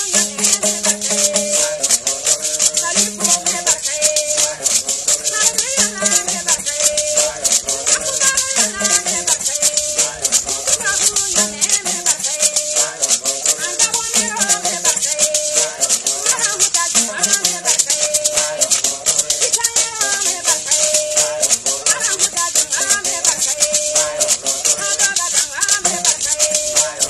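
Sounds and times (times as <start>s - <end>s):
gourd rattles shaken: 0.0s - 27.0s
voices singing: 0.0s - 27.0s.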